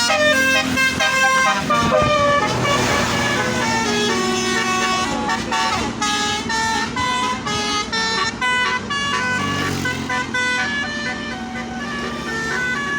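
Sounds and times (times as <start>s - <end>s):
bus horn playing melody: 0.0s - 12.9s.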